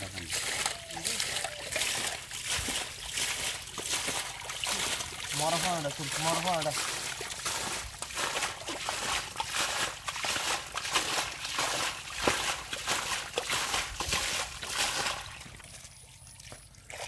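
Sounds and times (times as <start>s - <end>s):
fish splashing in shallow water: 0.0s - 17.0s.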